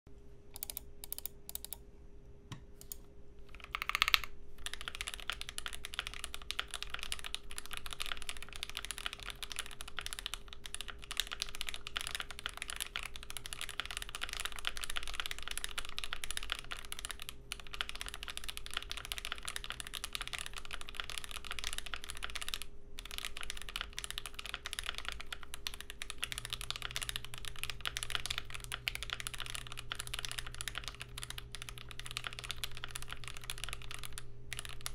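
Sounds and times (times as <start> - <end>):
mechanical keyboard typing: 0.5 - 1.8, 2.8 - 34.9.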